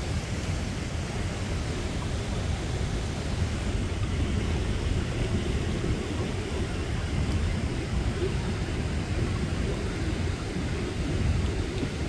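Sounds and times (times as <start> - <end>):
stream flowing over rocks: 0.0 - 12.0
wind on microphone: 0.0 - 12.0.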